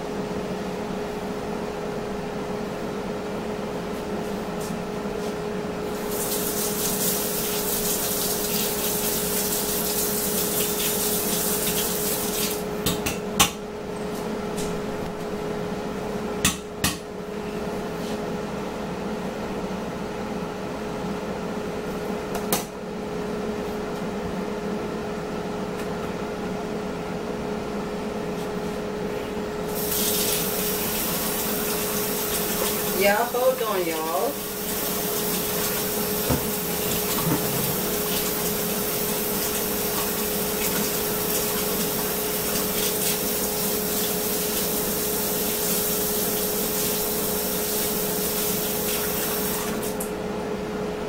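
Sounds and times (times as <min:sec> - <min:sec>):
steady kitchen hum: 0:00.0 - 0:51.0.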